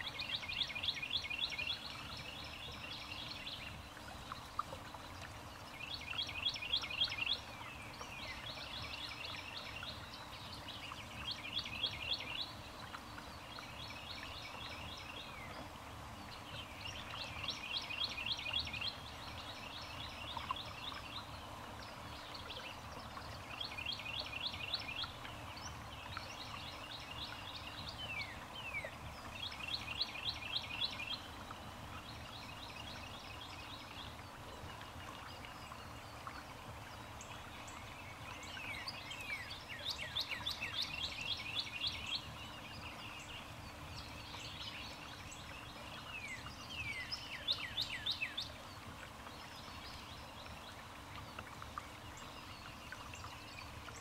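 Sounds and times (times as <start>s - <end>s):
steady low hiss: 0.0s - 54.0s.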